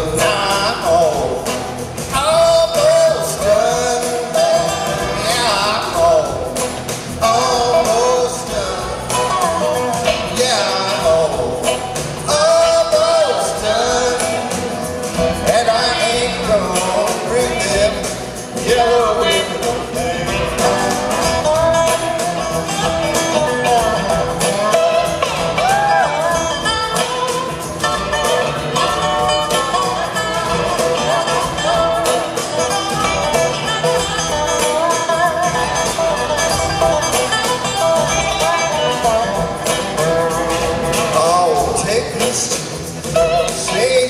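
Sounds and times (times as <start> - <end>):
blues band playing: 0.0 - 44.0
drums: 0.0 - 44.0
guitar lead: 0.0 - 44.0
sliding melody line: 0.0 - 44.0
upright bass: 0.0 - 44.0.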